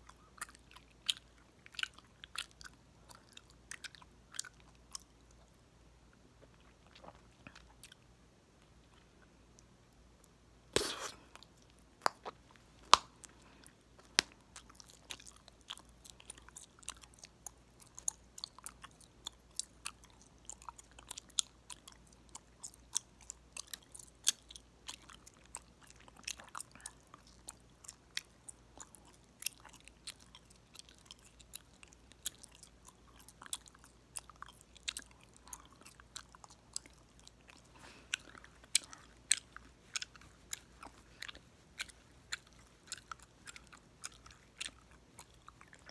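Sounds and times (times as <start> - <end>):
chewing gum popping: 0.0 - 5.6, 8.8 - 45.9.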